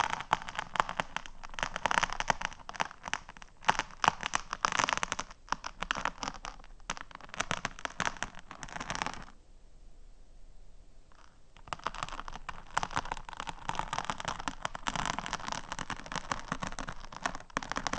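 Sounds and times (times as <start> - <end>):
fingernails tapping and scratching: 0.0 - 9.3, 11.1 - 17.9.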